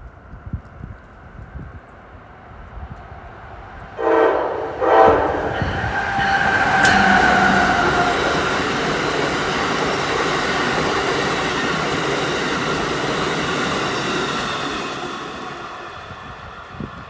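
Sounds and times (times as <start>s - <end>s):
train wheels rushing on rails: 2.5s - 17.0s.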